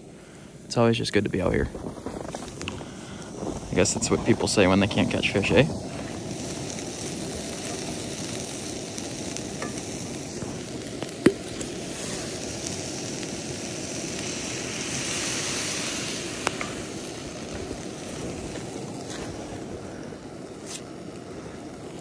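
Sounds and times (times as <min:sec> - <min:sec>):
meat sizzling in a frying pan: 0:00.6 - 0:22.0.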